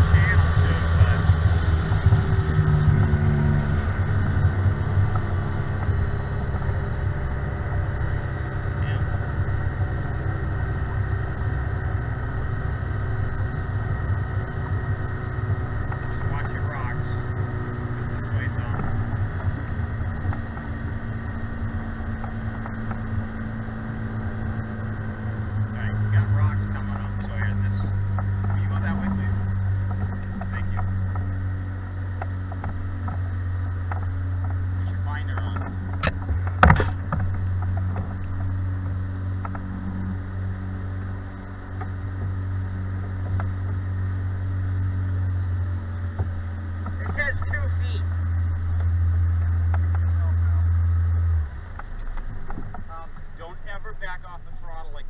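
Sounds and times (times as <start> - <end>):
outboard motor droning: 0.0 - 55.0.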